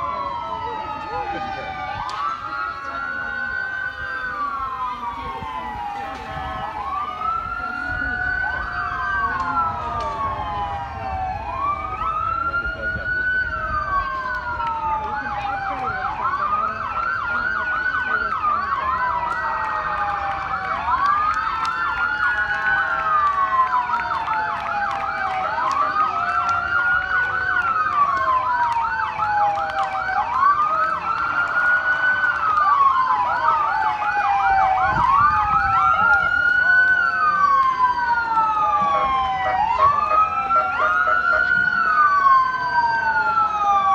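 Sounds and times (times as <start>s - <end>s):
police siren wail: 0.0s - 43.9s
police siren yelp: 0.0s - 43.9s.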